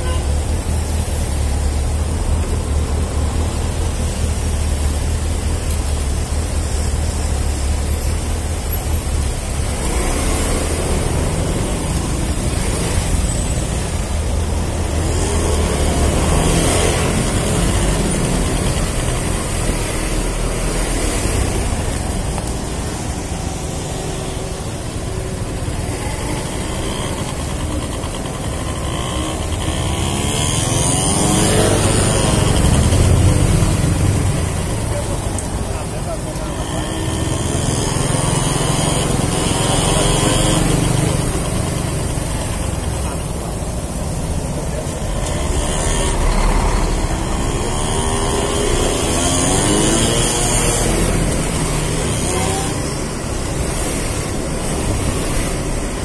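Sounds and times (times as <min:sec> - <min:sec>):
scooter engine running: 0:00.0 - 0:56.0
traffic: 0:00.0 - 0:56.0.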